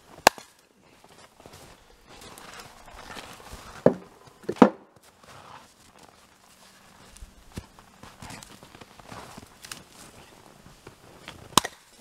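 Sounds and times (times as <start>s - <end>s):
footsteps crunching in snow: 0.0s - 12.0s.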